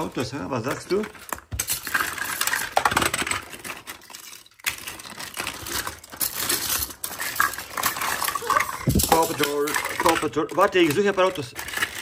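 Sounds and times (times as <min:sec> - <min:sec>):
toys clattering and rattling: 0:00.0 - 0:12.0.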